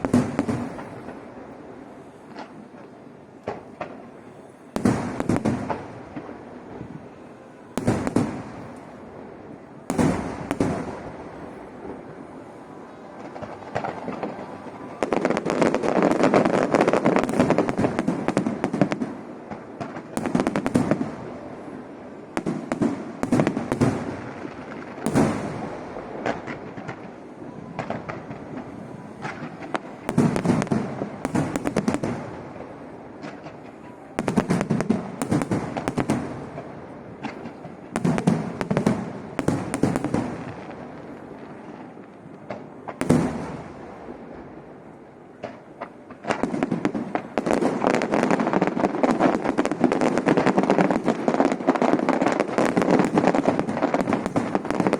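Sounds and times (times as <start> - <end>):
fireworks bangs and pops: 0.0 - 1.3, 4.7 - 7.0, 7.8 - 9.0, 9.8 - 12.2, 13.1 - 21.4, 22.3 - 27.2, 27.8 - 44.2, 45.3 - 54.9.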